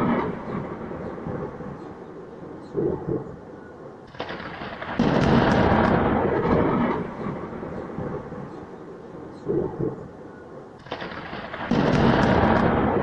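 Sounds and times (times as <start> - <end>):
thunder crack and rolling rumble: 0.0 - 3.4, 4.1 - 10.1, 10.8 - 13.0.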